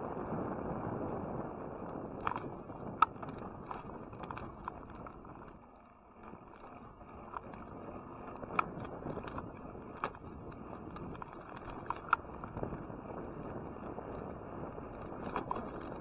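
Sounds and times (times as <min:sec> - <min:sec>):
bicycle tyre and wind rush: 0:00.0 - 0:16.0
bike rattling and clicking: 0:00.0 - 0:16.0.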